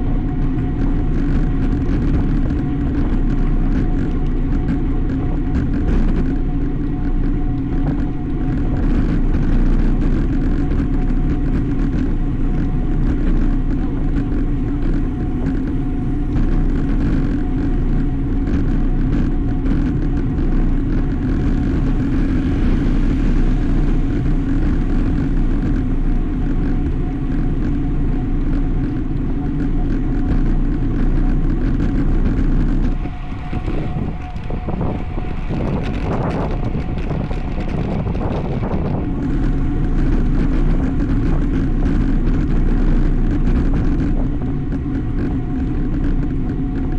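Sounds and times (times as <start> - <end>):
bicycle road noise: 0.0 - 46.9
steady hum: 0.0 - 46.9
wind rushing on microphone: 0.0 - 46.9.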